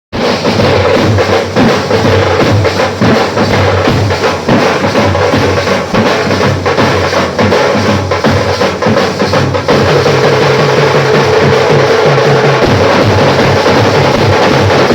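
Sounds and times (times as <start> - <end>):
drum band playing fast beat: 0.1 - 14.9.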